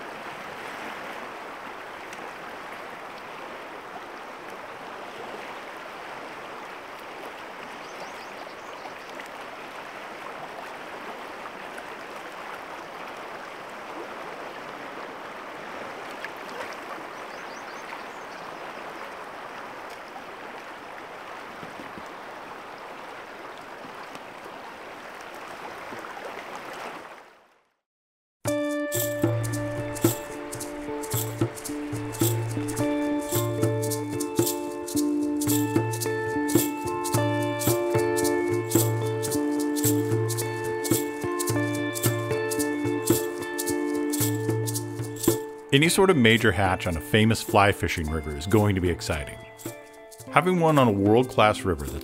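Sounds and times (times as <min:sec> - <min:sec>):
river rushing: 0:00.0 - 0:27.1, 0:28.9 - 0:51.9.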